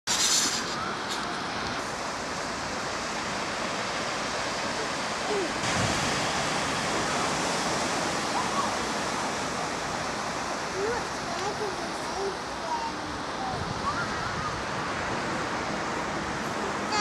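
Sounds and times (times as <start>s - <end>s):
wind: 0.0s - 17.0s
sea surf: 0.1s - 17.0s.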